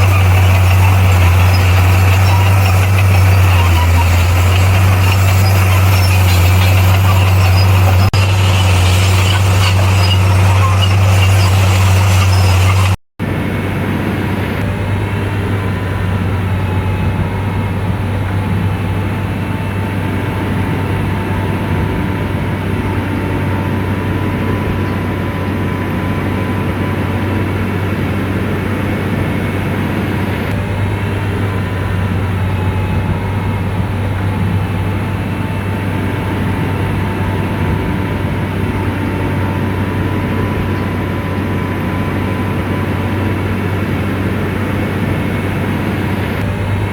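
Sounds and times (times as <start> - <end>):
diesel engine running: 0.0 - 46.9
faint steady whine: 0.0 - 46.9.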